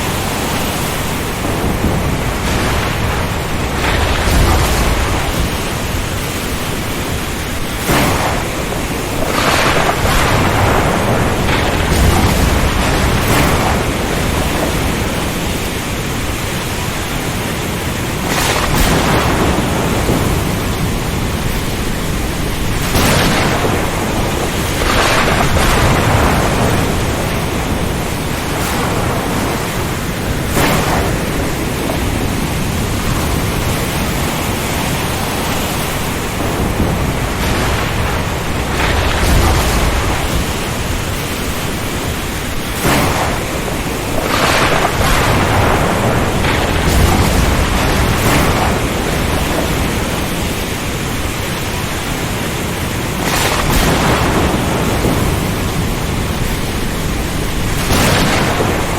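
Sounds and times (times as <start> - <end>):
rain: 0.0 - 58.9
surf crashing: 0.0 - 58.9
wind gusts: 0.0 - 58.9.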